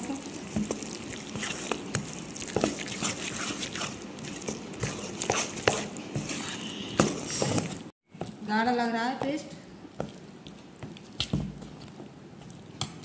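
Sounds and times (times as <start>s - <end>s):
spoon stirring thick batter: 0.0s - 13.0s.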